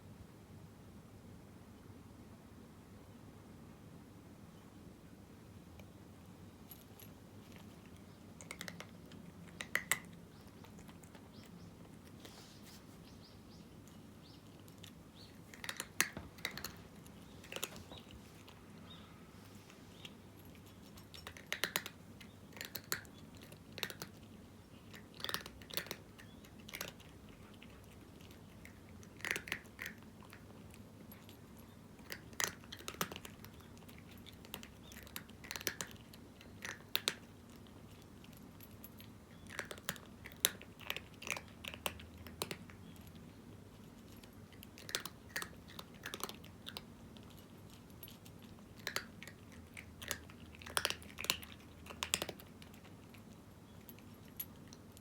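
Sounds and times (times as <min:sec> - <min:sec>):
cat crunching dry kibble: 0:06.5 - 0:12.9, 0:13.8 - 0:18.8, 0:19.5 - 0:55.0.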